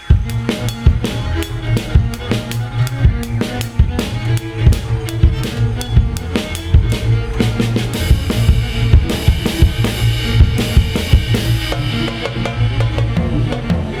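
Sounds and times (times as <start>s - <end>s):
drum kit beat: 0.0s - 14.0s
held pitched tones: 0.0s - 14.0s
sustained low bass notes: 0.0s - 14.0s.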